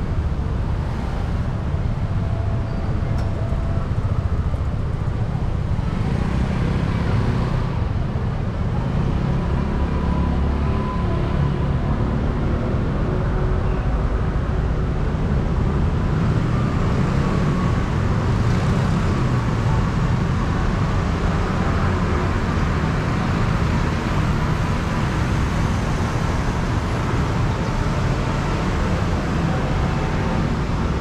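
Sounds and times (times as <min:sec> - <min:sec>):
city road traffic rumble: 0:00.0 - 0:31.0.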